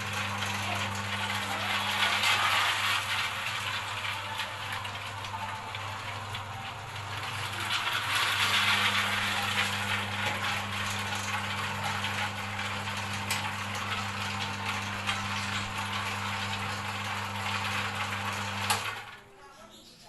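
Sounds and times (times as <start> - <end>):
electric motor hum: 0.0 - 19.1.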